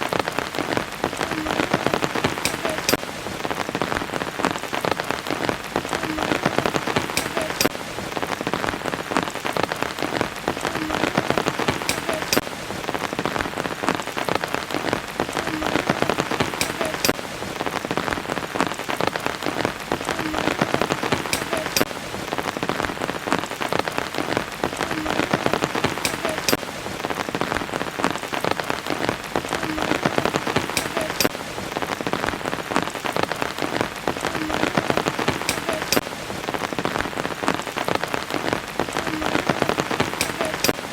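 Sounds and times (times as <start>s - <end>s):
rain drops ticking on surfaces: 0.0s - 40.9s.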